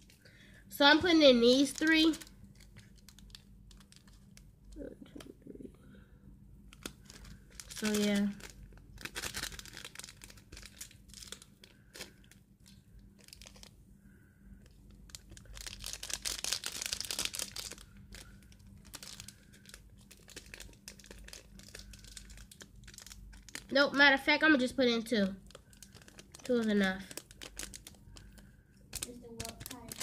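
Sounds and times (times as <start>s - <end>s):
plastic packets crinkling: 1.4s - 5.3s, 6.7s - 13.7s, 14.6s - 23.8s, 25.1s - 30.0s.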